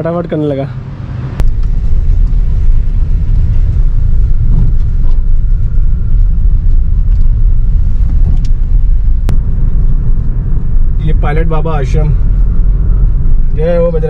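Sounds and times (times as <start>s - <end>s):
car road and wind rumble: 0.0s - 14.0s.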